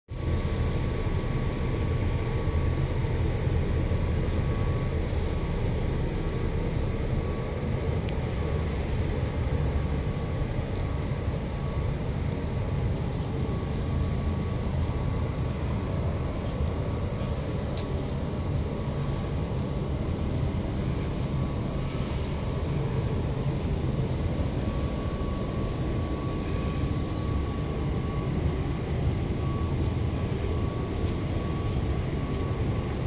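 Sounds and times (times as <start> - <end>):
faint steady whine: 0.1 - 33.0.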